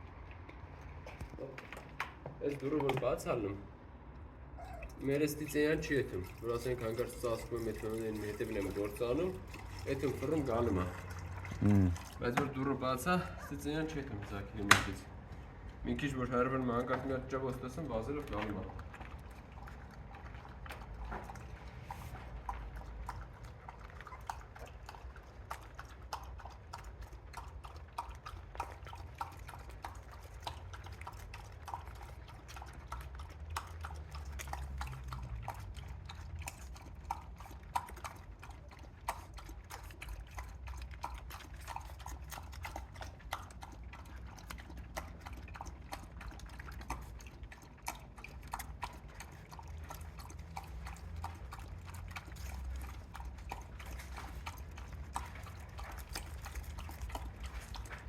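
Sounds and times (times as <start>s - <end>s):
dog chewing food: 0.0s - 58.0s.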